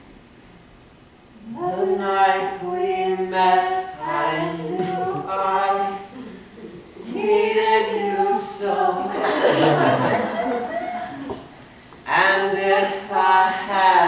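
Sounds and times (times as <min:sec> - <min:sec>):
unaccompanied singing: 0:01.4 - 0:14.0.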